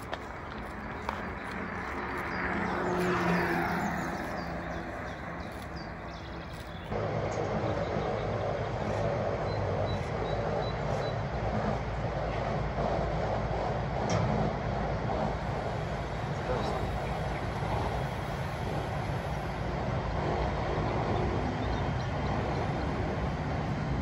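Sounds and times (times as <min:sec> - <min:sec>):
electric train rumbling: 0:00.0 - 0:24.0
motor vehicle passing: 0:00.0 - 0:24.0.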